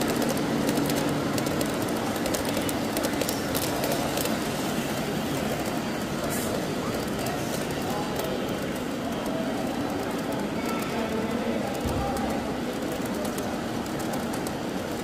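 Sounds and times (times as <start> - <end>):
model train wheels clattering: 0.0 - 15.0.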